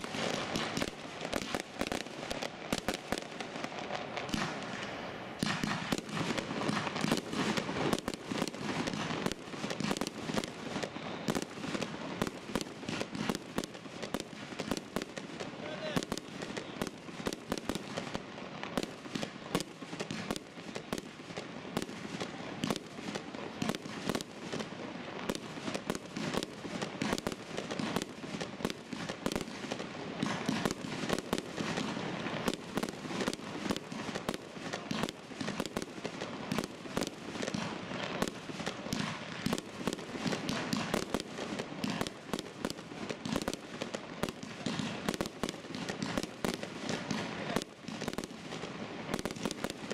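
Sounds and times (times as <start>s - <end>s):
fireworks launching and bursting: 0.0s - 49.9s.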